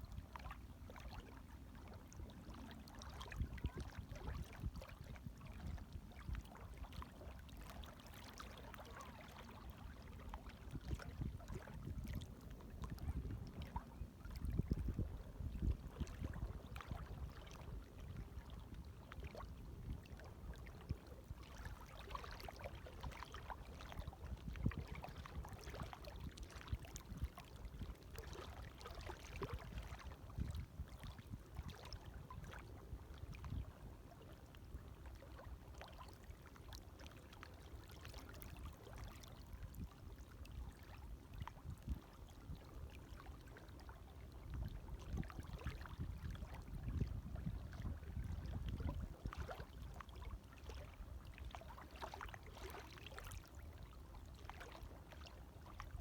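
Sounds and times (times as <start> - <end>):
small waves lapping: 0.1 - 56.0.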